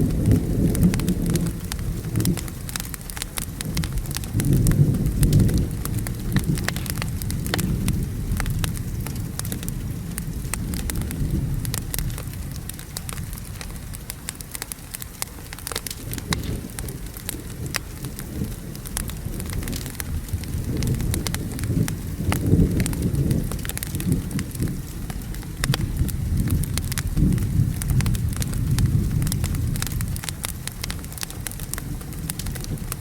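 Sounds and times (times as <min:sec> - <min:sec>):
rolling thunder: 0:00.0 - 0:13.9, 0:15.8 - 0:33.0
steady rain: 0:00.0 - 0:33.0
wood fire crackling: 0:00.0 - 0:33.0.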